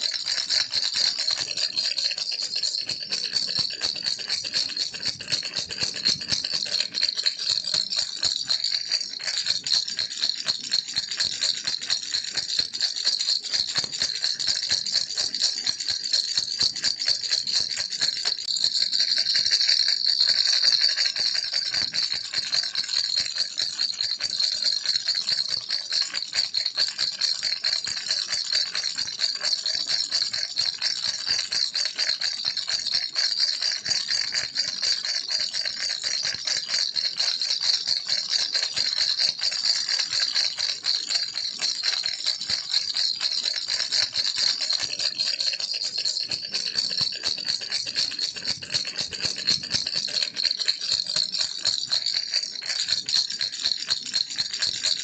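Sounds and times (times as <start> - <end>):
baby rattle shaken: 0.0 - 31.4, 32.4 - 55.0.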